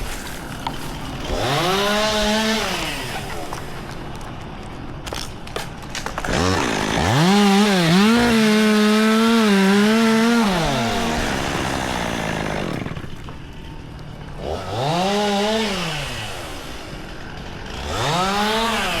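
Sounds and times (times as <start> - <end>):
chainsaw revving: 0.0 - 4.0, 6.2 - 13.3, 14.3 - 19.0.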